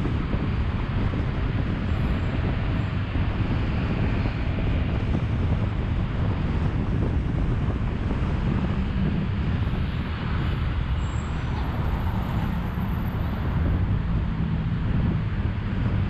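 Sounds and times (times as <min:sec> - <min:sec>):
road traffic rumble: 0:00.0 - 0:16.0
wind buffeting the microphone: 0:00.0 - 0:16.0.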